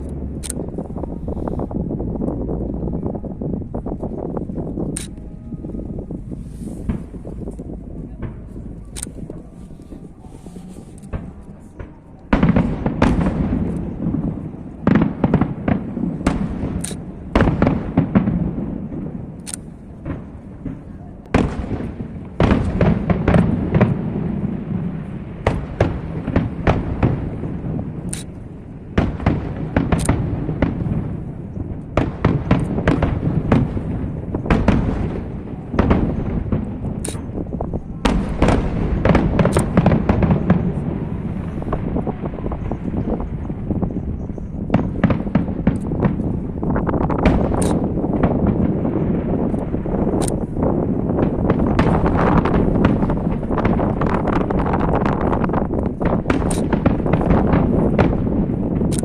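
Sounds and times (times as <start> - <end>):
fireworks bangs and crackles: 0.0 - 59.0
low rumble: 0.0 - 59.0.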